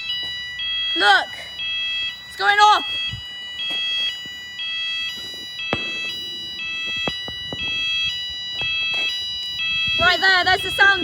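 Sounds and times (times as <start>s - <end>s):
electronic two-tone fire alarm: 0.0s - 11.0s.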